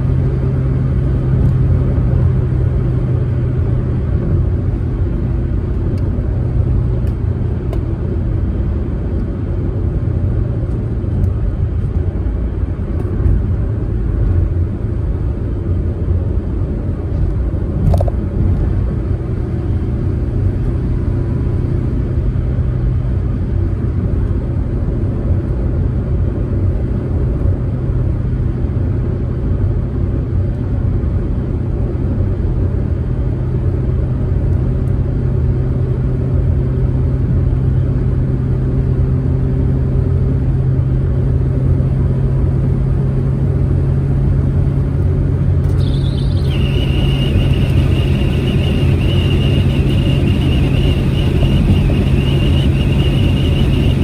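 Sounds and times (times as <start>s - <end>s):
car engine drone: 0.0s - 54.0s
road and tyre noise: 0.0s - 54.0s.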